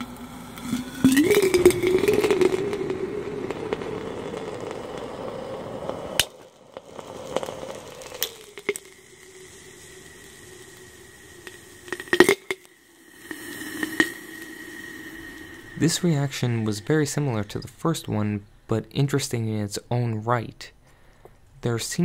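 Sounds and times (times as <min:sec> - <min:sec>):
sharp pops and crackles: 0:00.0 - 0:18.8
loud sizzling hiss: 0:00.0 - 0:20.0
faint steady hum: 0:00.0 - 0:22.0.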